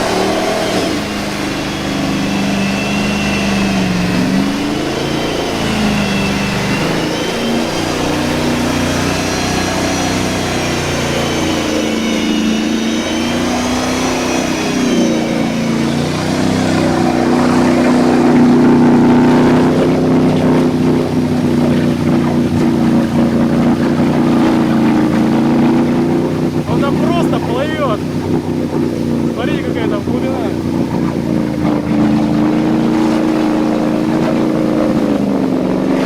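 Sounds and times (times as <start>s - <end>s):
high whine: 0.0s - 36.0s
truck engine under load: 0.0s - 36.0s
truck wading through puddle: 0.0s - 36.0s.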